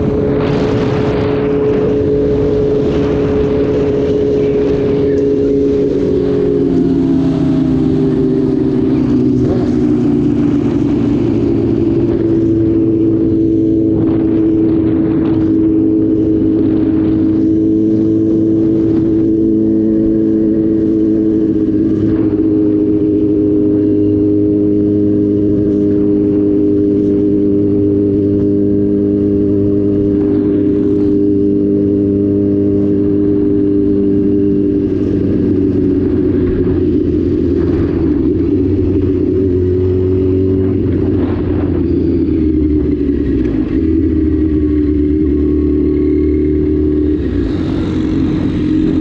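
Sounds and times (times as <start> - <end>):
motorcycle engine cruising: 0.0 - 49.0
wind rush: 0.0 - 49.0.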